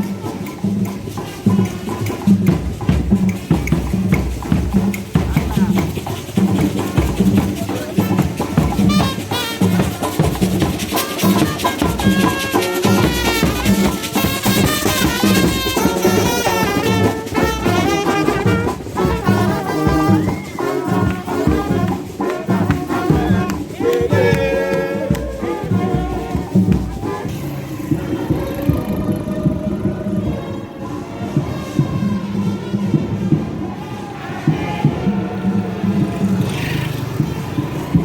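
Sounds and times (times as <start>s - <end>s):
brass band playing: 0.0s - 38.0s
drumbeat: 0.0s - 38.0s.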